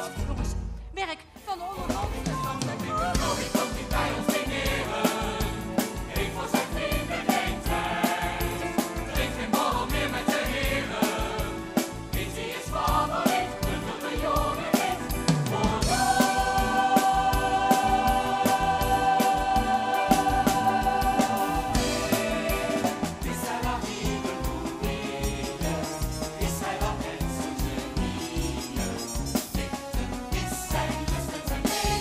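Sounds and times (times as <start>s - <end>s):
steady drum beat: 1.8s - 32.0s
ensemble singing with band: 2.5s - 32.0s.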